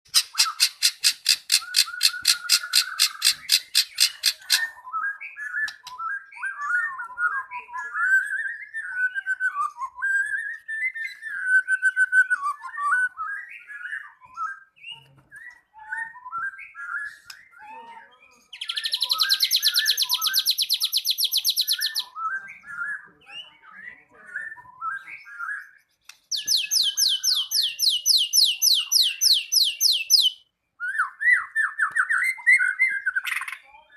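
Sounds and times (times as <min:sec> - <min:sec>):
bird whistled song: 0:00.1 - 0:33.9.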